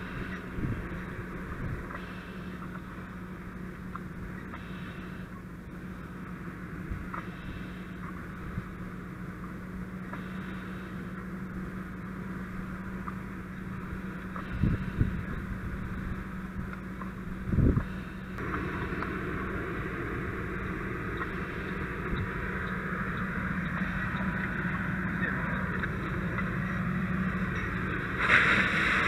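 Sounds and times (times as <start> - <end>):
engine humming: 0.0 - 29.0
steady hiss: 0.0 - 29.0.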